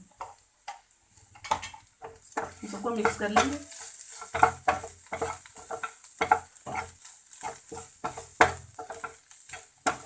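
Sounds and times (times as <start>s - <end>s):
faint sizzle: 0.0s - 10.0s
spatula scraping a pan: 0.0s - 10.0s.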